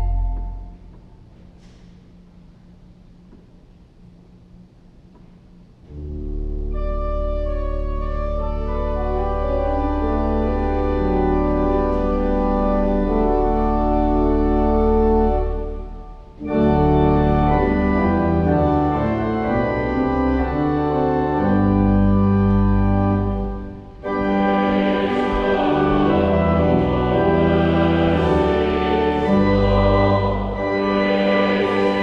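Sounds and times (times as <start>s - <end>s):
church organ playing hymn chords: 0.0s - 1.7s, 5.9s - 32.0s.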